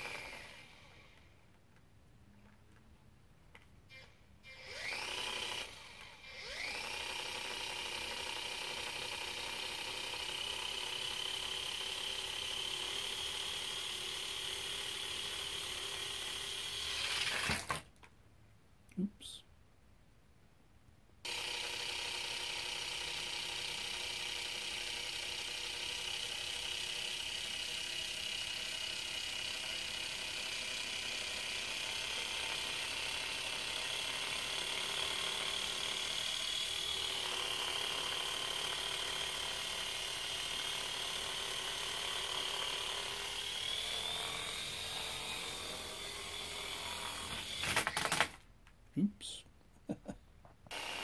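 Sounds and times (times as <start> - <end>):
toy helicopter whining: 0.0 - 1.3, 3.9 - 17.8, 21.3 - 48.4, 50.7 - 51.0.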